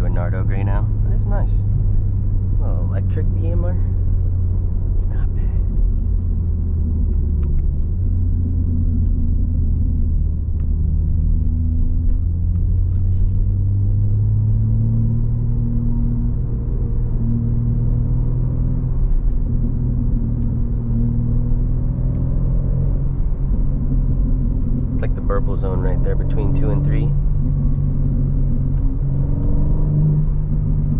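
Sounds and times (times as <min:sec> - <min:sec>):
car exhaust rumble while driving: 0:00.0 - 0:30.9.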